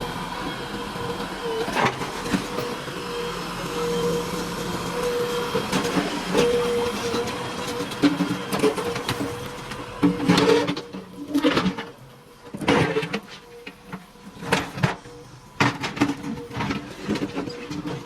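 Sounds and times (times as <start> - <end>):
diesel engine whining under load: 0.0 - 18.0.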